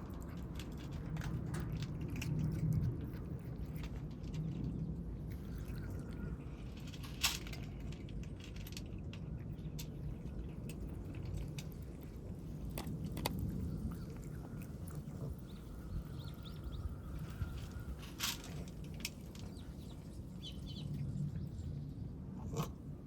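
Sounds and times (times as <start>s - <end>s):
kittens chewing food: 0.0s - 23.0s
low steady hum: 0.0s - 23.0s.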